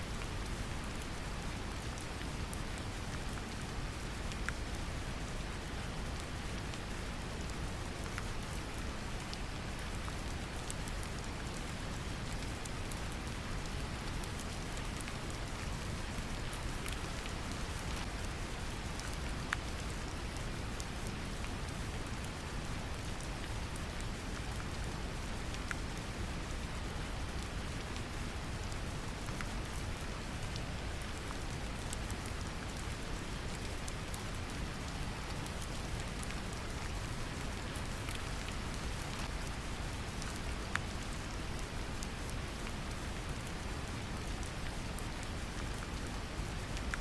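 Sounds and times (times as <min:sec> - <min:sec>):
gentle rain patter: 0:00.0 - 0:47.0.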